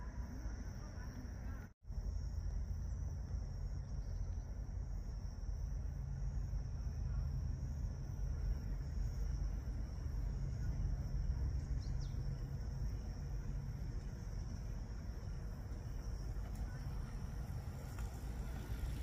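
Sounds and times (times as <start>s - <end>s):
insects chirping chorus: 0.0s - 19.0s.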